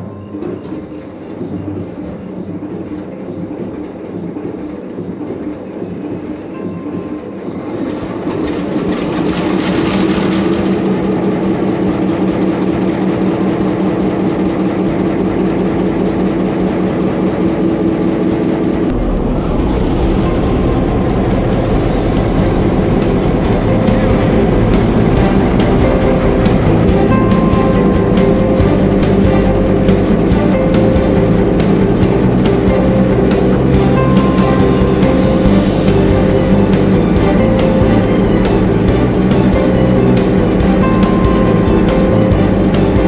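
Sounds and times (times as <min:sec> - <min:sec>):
diesel engine pulsing: 0:00.0 - 0:43.0.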